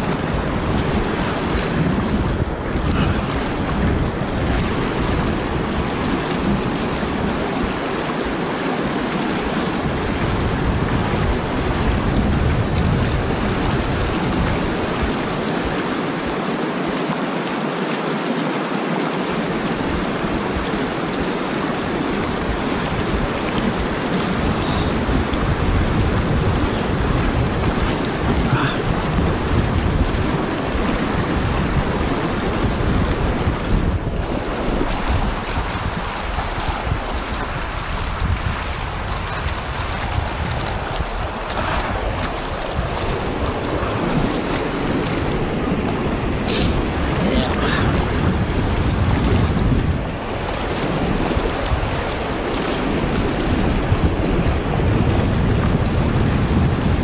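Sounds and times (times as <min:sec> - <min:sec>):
wind buffeting microphone: 0:00.0 - 0:16.5, 0:19.4 - 0:57.0
water rushing over spillway: 0:00.0 - 0:57.0.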